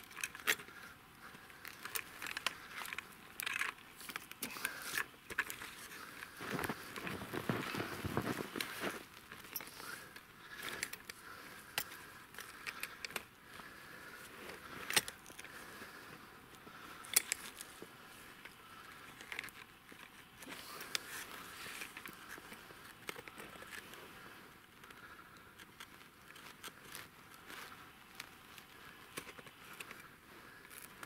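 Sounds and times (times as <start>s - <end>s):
soft rustling: 0.1s - 31.0s.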